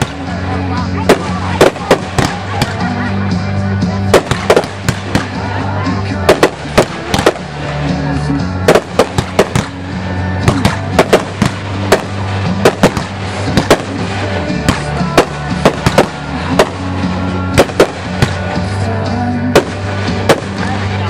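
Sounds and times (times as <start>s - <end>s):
fireworks bursting: 0.0s - 3.0s, 4.0s - 5.6s, 6.2s - 18.8s, 19.4s - 21.0s
music playing: 0.0s - 21.0s.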